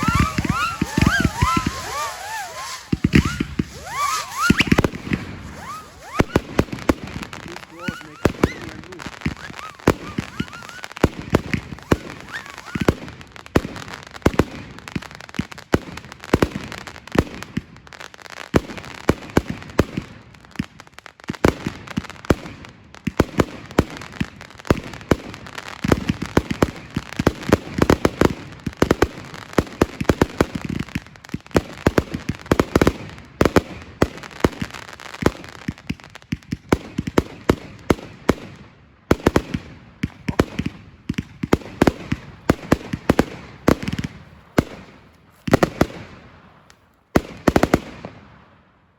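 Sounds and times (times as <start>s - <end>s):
fireworks bangs and booms: 0.0s - 48.6s.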